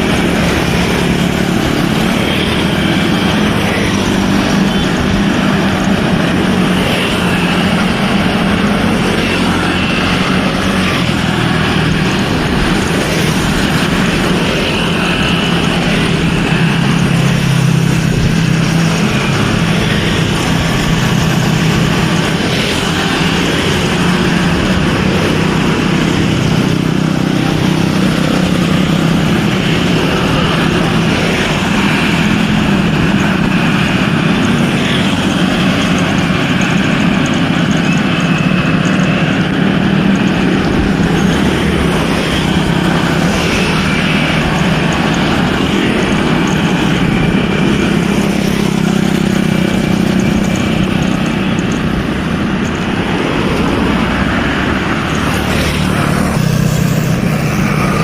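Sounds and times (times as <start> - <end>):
vehicle engines running: 0.0 - 58.0.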